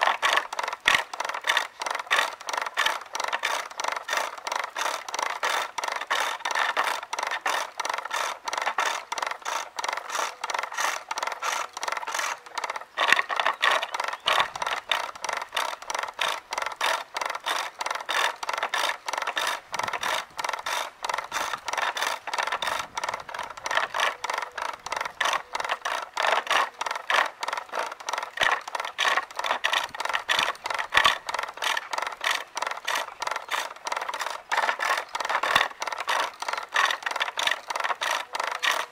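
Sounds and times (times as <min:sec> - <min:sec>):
gouge scraping wood on lathe: 0:00.0 - 0:38.9.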